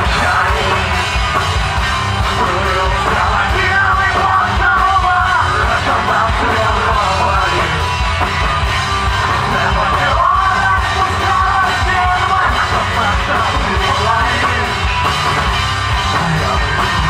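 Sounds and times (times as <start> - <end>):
singer's voice: 0.0 - 8.1, 9.2 - 17.0
bass guitar: 0.0 - 17.0
drum kit: 0.0 - 17.0
electric guitar: 0.0 - 17.0.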